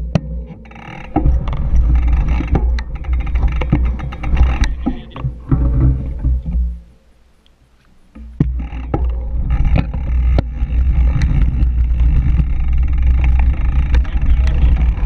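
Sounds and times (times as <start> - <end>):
bike rattling and knocking: 0.0 - 6.8, 8.2 - 15.0
wind buffeting microphone: 1.1 - 6.9, 8.4 - 15.0.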